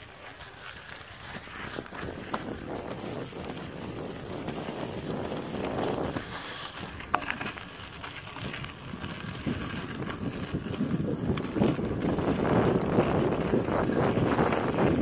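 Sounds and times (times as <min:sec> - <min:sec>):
wind buffeting microphone: 0:01.1 - 0:15.0.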